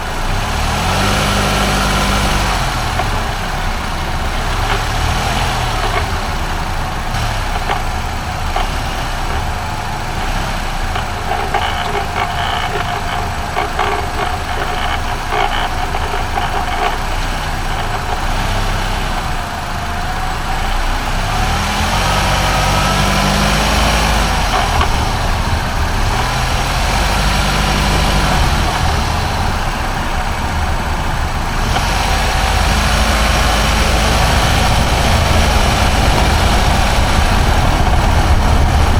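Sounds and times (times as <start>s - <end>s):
car running with strange noise: 0.0s - 38.9s.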